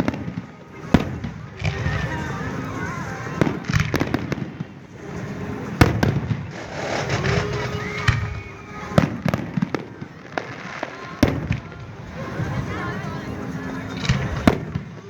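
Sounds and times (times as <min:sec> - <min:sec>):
firework shells bursting: 0:00.0 - 0:12.7
firework crackling: 0:00.0 - 0:15.0.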